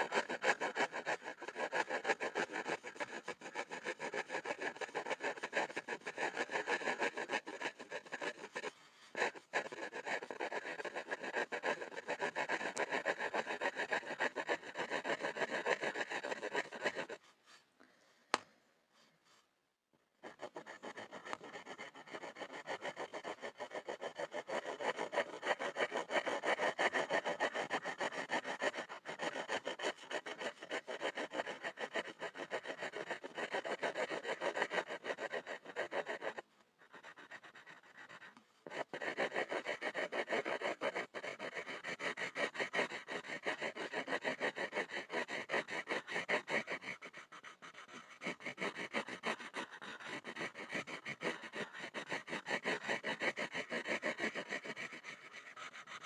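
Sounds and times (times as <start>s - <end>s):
pencil scribbling on a board: 0.0s - 17.7s, 20.1s - 56.0s.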